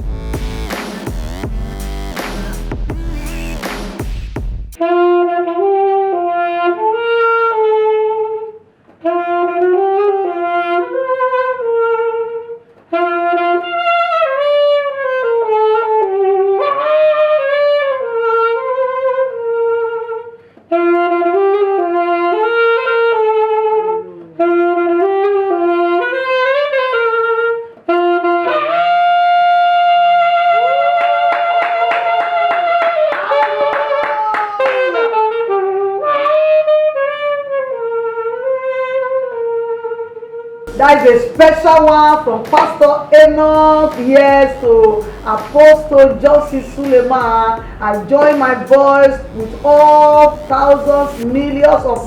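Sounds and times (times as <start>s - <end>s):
saxophone-like slow melody: 0.0s - 4.0s, 4.8s - 52.0s.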